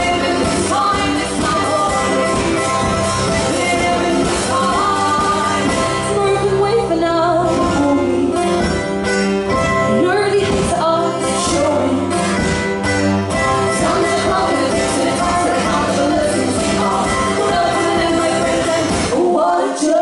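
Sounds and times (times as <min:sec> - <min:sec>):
women singing: 0:00.0 - 0:08.6, 0:09.9 - 0:12.4, 0:13.6 - 0:20.0
acoustic guitar: 0:00.0 - 0:20.0
mandolin: 0:00.0 - 0:20.0.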